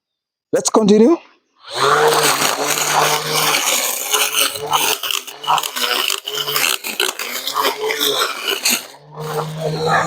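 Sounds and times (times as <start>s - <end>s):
brush cutter motor hum: 1.6s - 10.0s
cutting head scraping grass: 1.7s - 10.0s.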